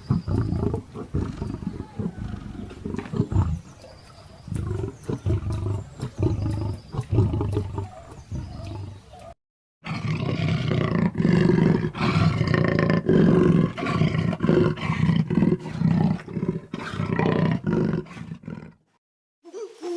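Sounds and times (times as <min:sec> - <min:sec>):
big cat roaring: 0:00.0 - 0:03.7, 0:04.5 - 0:09.1, 0:09.8 - 0:18.8.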